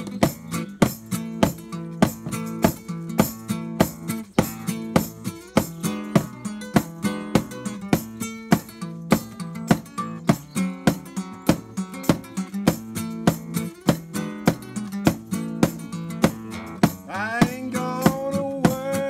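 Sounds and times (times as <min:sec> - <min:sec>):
acoustic guitar strumming: 0:00.0 - 0:19.0
steady percussive beat: 0:00.0 - 0:19.0.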